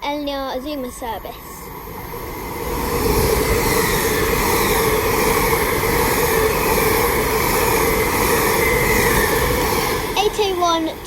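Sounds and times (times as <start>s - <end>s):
high-speed train rushing past: 0.0s - 11.0s.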